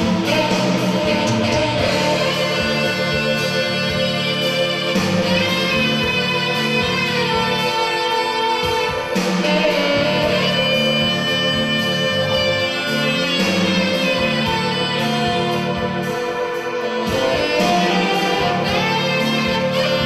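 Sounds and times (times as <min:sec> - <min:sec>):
instrumental music with pulsing bass: 0:00.0 - 0:20.0.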